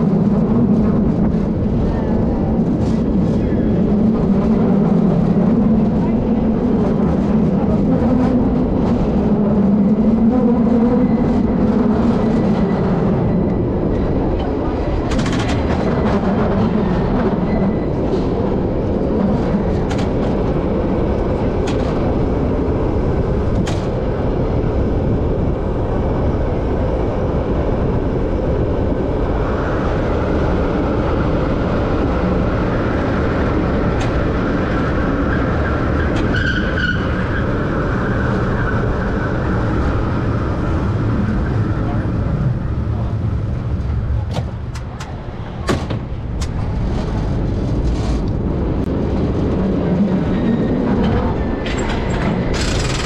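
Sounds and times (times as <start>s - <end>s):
streetcar wheels rumbling on rails: 0.0s - 53.0s.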